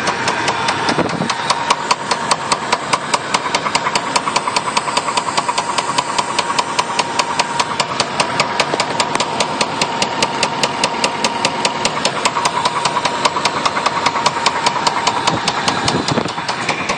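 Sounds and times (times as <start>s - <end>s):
car engine idling with knock: 0.0s - 16.9s
steady engine whine: 0.0s - 16.9s.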